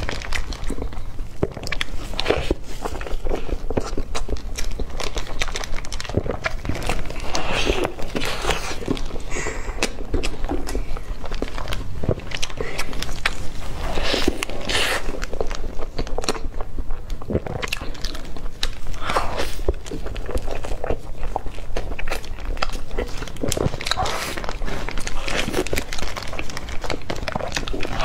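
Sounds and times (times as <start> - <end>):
biting and chewing soft bun: 0.0 - 28.0
wet crackly mouth clicks: 0.0 - 28.0.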